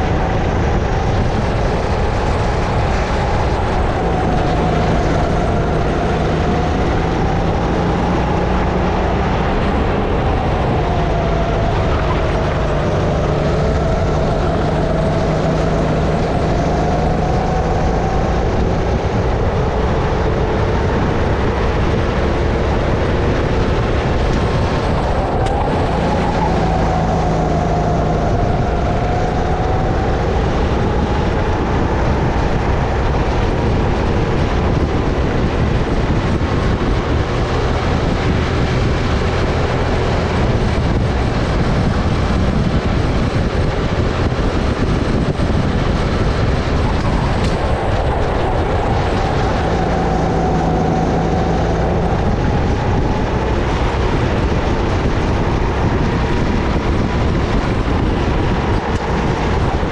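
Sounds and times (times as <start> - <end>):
kart engine running under load: 0.0 - 59.9
wind rush: 0.0 - 59.9.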